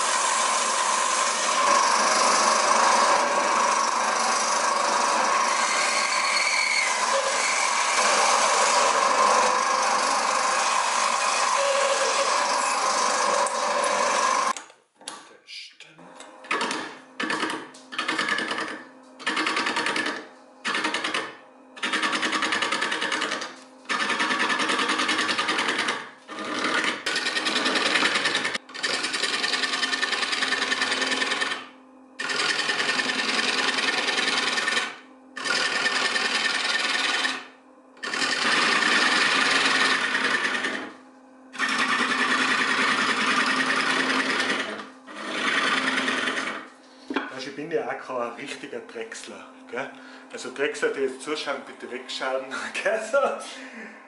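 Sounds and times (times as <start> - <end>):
chisel scraping spinning wood: 0.0 - 14.6, 16.5 - 47.7
lathe humming: 0.0 - 14.6, 16.0 - 54.0.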